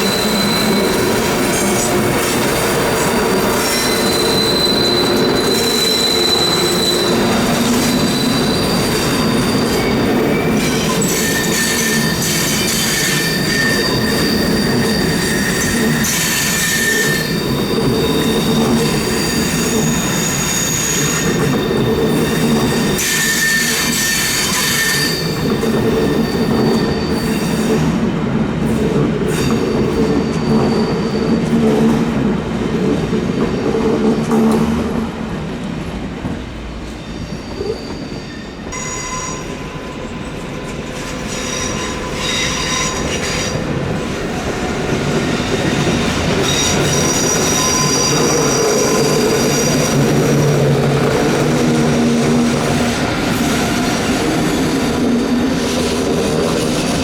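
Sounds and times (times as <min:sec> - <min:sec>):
train wheels squealing: 0:00.0 - 0:32.2, 0:32.8 - 0:34.9, 0:36.8 - 0:57.0
train rumbling on rails: 0:00.0 - 0:57.0.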